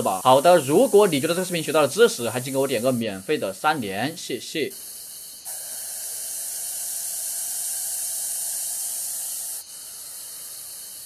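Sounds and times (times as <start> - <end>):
snake hissing: 0.0 - 11.0.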